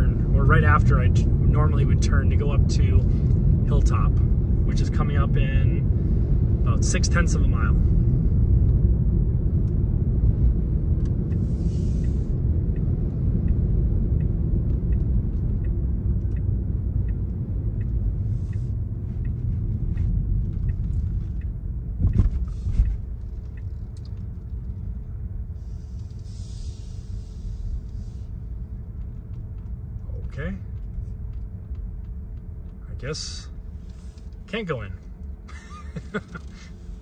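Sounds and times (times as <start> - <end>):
turn signal ticking: 0.0 - 37.0
tyre and road rumble: 0.0 - 37.0.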